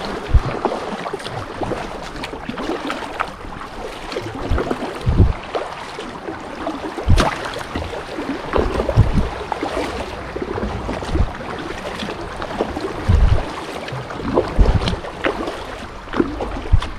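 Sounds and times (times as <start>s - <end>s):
low thumps and splashes: 0.0s - 16.9s
water slapping kayak hull: 0.0s - 16.9s.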